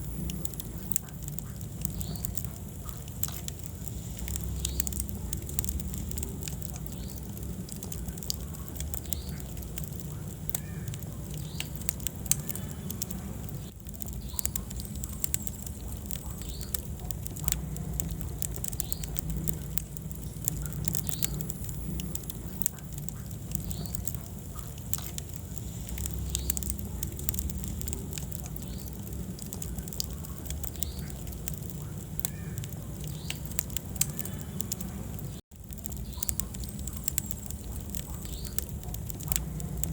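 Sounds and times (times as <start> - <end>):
low rumble of burning logs: 0.0 - 39.9
sharp pops and snaps: 0.0 - 39.9
wood fire crackling: 0.0 - 39.9.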